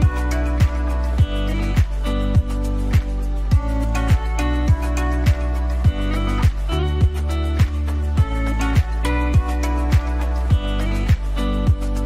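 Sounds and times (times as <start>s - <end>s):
background music with steady beat: 0.0s - 12.0s
deep kick drum: 0.0s - 12.0s.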